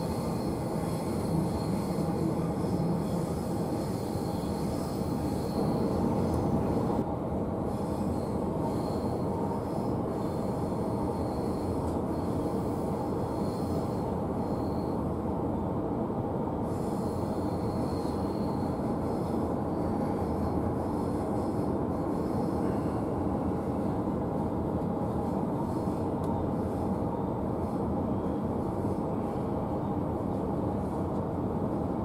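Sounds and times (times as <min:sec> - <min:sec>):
train wheels on rails: 0:00.0 - 0:15.3, 0:16.6 - 0:32.0.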